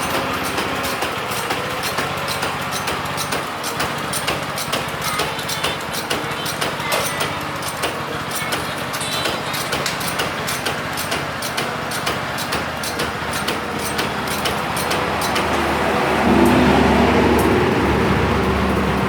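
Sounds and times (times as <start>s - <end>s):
petrol engine running steadily: 0.0s - 19.0s
rapid mechanical clatter: 0.0s - 19.0s.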